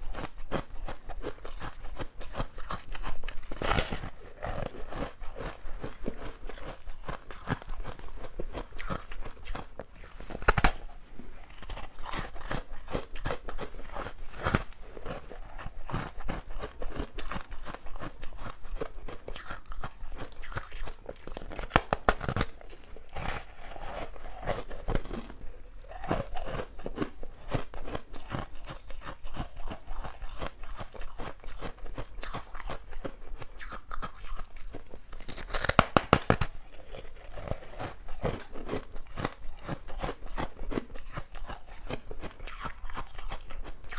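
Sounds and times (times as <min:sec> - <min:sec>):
chewing crunchy ice: 0:00.0 - 0:43.9.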